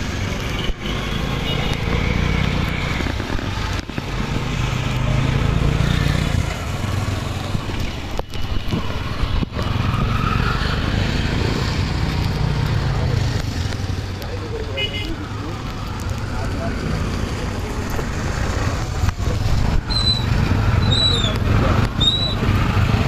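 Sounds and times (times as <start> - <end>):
motorbike engines passing: 0.0 - 23.0
road traffic noise: 0.0 - 23.0.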